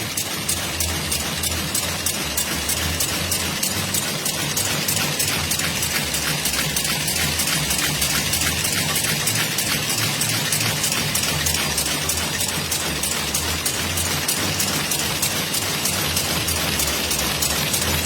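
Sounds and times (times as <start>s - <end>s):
machine clattering and clicking: 0.0s - 18.0s.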